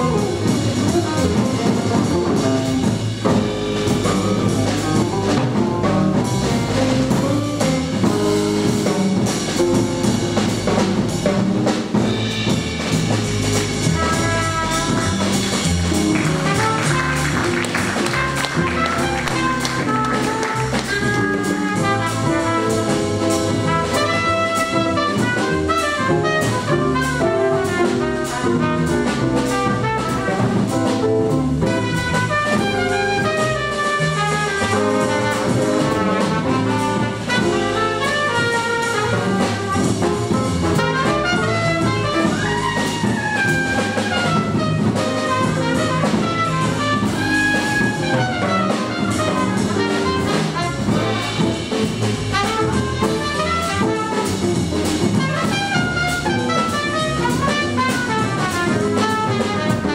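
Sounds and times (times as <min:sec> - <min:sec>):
trumpet: 0:00.0 - 0:11.1, 0:11.9 - 0:59.9
double bass: 0:00.0 - 0:59.9
drum kit: 0:00.0 - 0:59.9.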